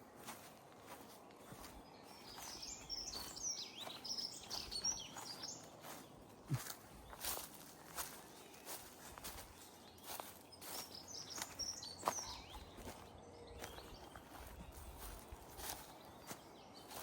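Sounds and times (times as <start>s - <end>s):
songbird twittering: 0.9s - 17.0s.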